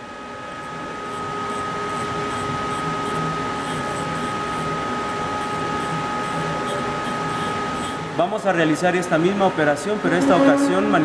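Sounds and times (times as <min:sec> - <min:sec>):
machining center hum and whine: 0:00.0 - 0:11.0.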